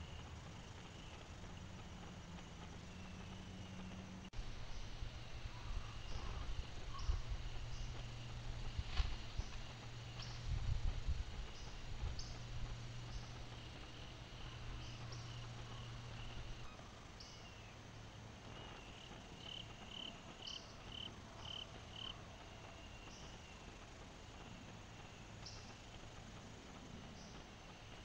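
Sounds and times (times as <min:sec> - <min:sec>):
insect chirping: 0:00.0 - 0:28.0
low steady hum: 0:00.0 - 0:28.0.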